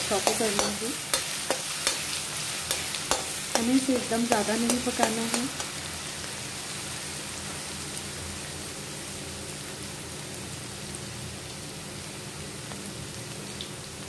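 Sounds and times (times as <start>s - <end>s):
ginger and garlic sizzling in oil: 0.0s - 14.0s.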